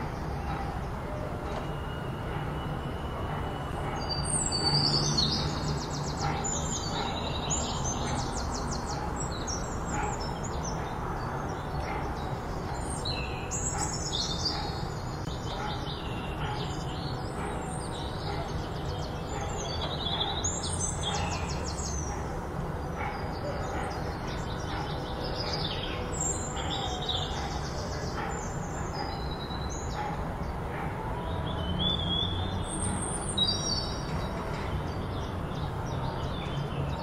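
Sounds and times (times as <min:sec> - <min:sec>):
small birds chirping and trilling: 0:00.0 - 0:37.0.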